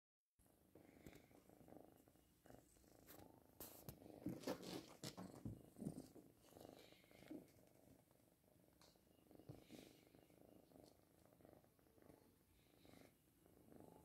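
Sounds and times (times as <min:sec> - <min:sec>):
kitten purring: 0:00.4 - 0:14.0.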